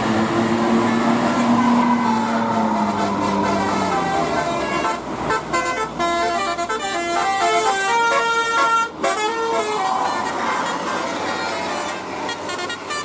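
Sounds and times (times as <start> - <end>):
bus multi-tone horn melody: 0.0 - 13.0
traffic noise: 0.0 - 13.0.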